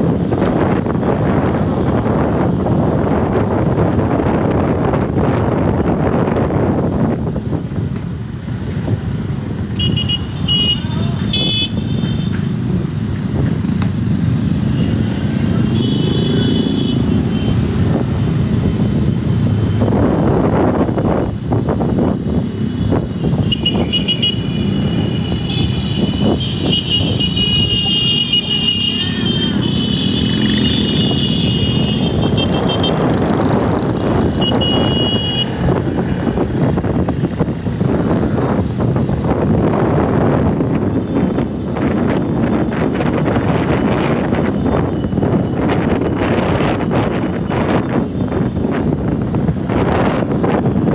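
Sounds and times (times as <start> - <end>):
motorcycle engines running: 0.0 - 50.9
road noise: 0.0 - 50.9.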